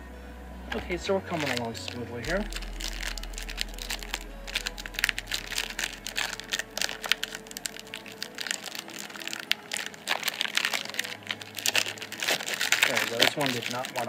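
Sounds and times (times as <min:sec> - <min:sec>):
foil wrapper crinkling: 0:00.7 - 0:14.0.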